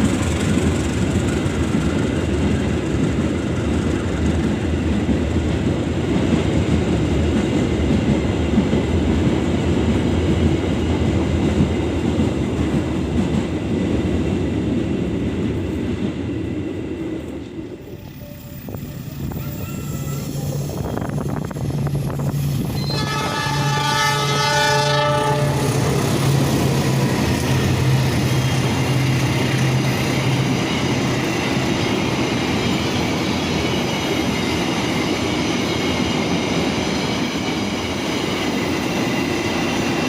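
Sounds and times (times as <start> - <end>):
train wagons rumbling on rails: 0.0 - 40.0.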